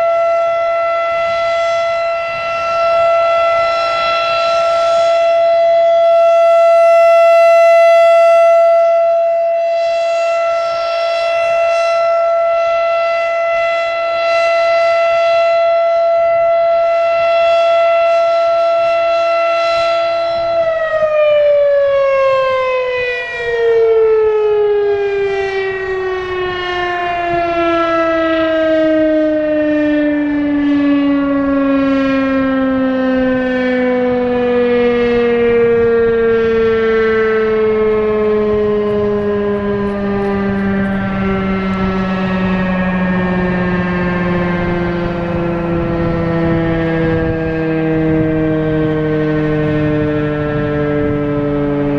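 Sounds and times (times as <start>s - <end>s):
rotating warning siren: 0.0s - 51.9s
wind rumble on microphone: 0.1s - 51.9s.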